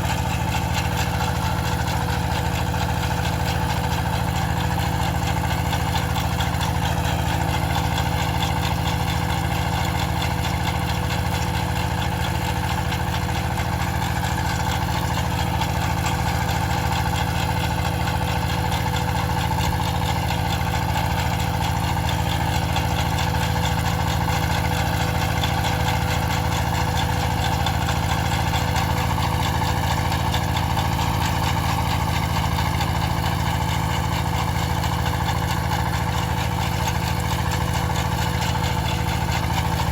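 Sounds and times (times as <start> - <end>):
farm machine engine droning: 0.0 - 39.9.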